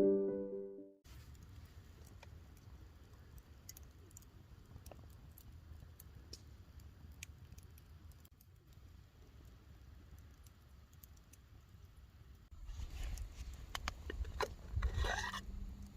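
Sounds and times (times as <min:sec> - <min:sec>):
campfire crackling: 0:01.1 - 0:15.9.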